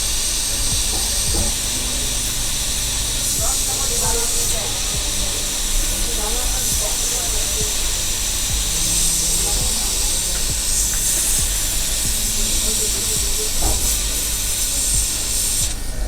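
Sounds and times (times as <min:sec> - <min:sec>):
hot air station hissing: 0:00.0 - 0:16.0.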